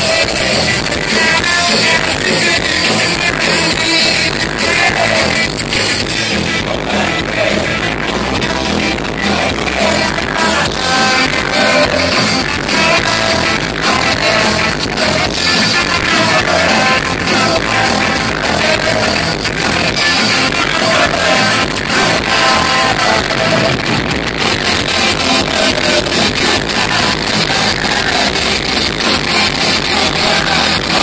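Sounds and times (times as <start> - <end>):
punk rock band playing live: 0.0 - 31.0.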